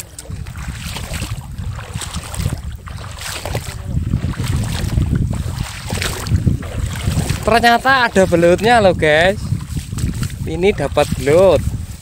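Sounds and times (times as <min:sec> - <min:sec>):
feet sloshing through water: 0:00.0 - 0:12.0
wind rumbling on microphone: 0:00.0 - 0:12.0.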